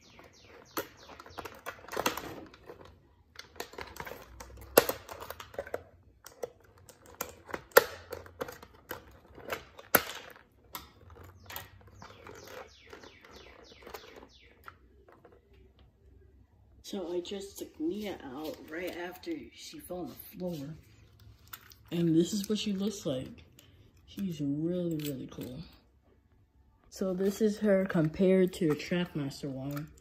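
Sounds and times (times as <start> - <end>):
toy trains and packaging handled: 0.0 - 15.8, 17.3 - 25.8, 26.9 - 30.0.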